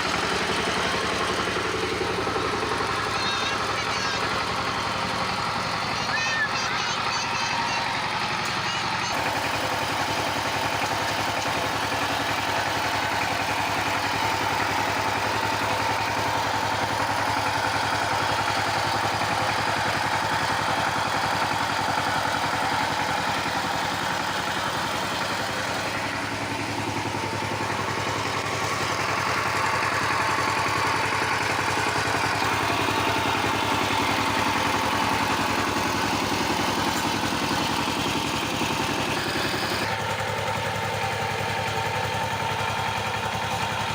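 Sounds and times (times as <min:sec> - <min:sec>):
tiller engine running: 0:00.0 - 0:43.9.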